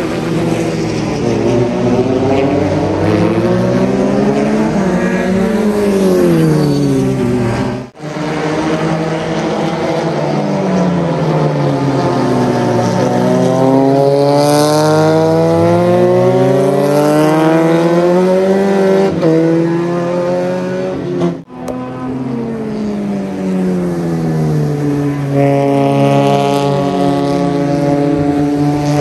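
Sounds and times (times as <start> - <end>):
race car engines running hard: 0.0 - 29.0.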